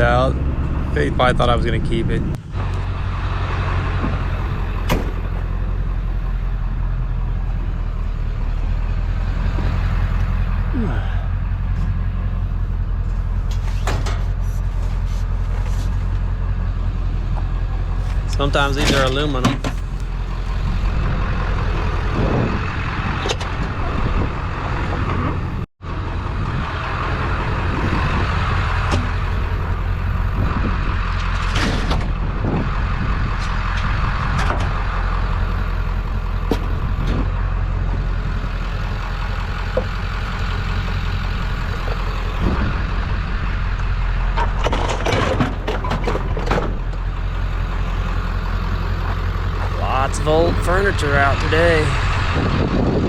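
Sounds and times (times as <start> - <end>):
road noise: 0.0 - 53.0
truck engine rumble: 0.0 - 53.0.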